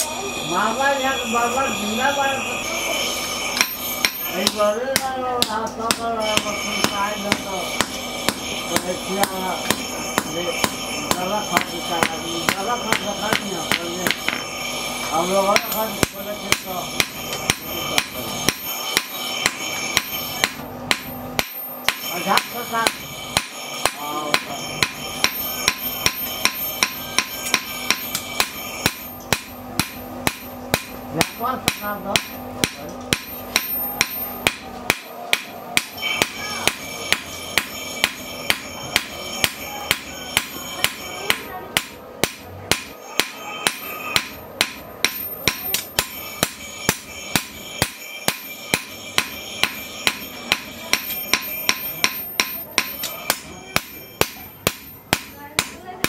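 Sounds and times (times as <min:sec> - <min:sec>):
hammer striking steel on anvil: 0:00.0 - 0:56.0
metal ringing: 0:00.0 - 0:56.0.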